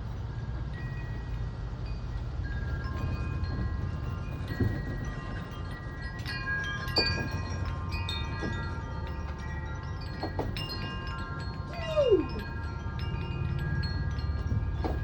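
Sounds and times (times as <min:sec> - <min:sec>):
low wind rumble: 0:00.0 - 0:15.0
wind chimes ringing: 0:00.0 - 0:15.0.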